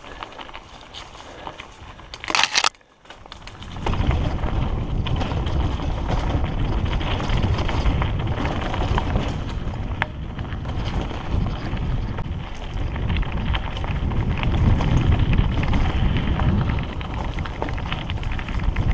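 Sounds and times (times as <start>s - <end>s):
mountain bike rattling over dirt: 0.0s - 18.9s
wind buffeting microphone: 3.4s - 18.9s.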